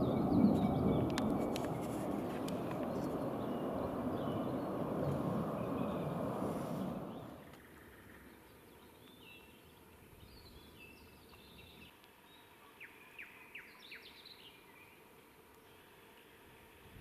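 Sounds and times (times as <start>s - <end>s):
faint birdsong: 0.0s - 16.9s
background hiss: 0.0s - 17.0s.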